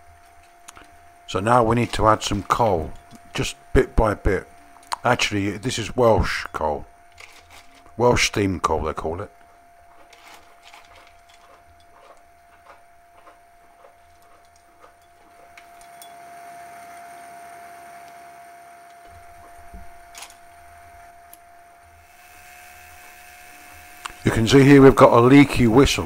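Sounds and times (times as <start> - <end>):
faint whine: 0.0 - 26.0.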